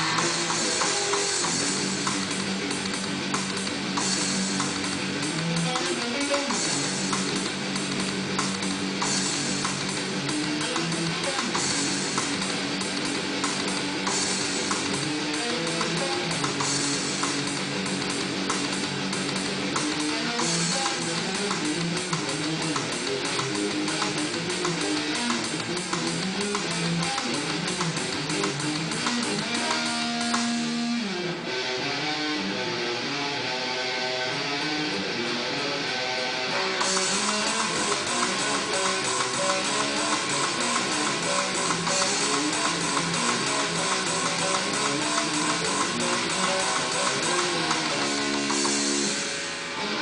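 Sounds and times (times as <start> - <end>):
drum kit beat: 0.0 - 31.0, 36.8 - 49.4
guitar: 0.0 - 50.0.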